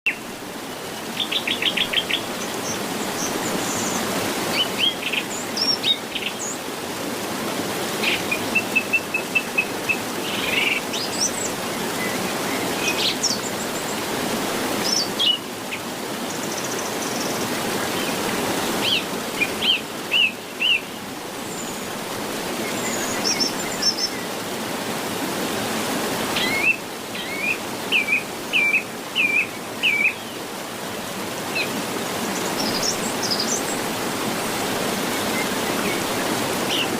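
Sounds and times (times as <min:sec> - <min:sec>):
wild birds chirping: 0:00.1 - 0:06.8, 0:07.9 - 0:24.6, 0:25.8 - 0:36.9.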